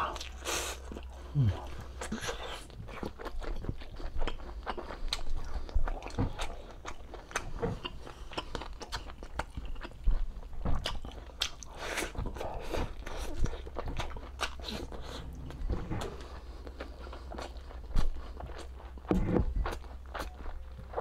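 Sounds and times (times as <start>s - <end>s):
person chewing with wet smacks: 0.0s - 21.0s.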